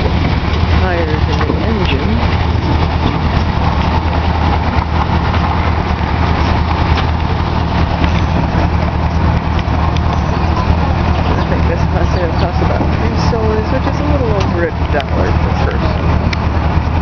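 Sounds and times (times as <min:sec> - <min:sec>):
ride train engine hum: 0:00.0 - 0:17.0.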